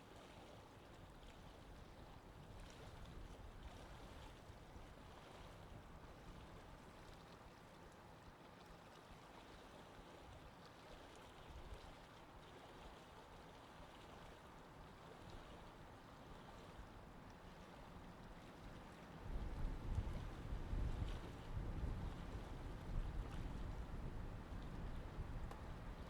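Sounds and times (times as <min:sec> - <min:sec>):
faint wash of water: 0:00.0 - 0:26.0.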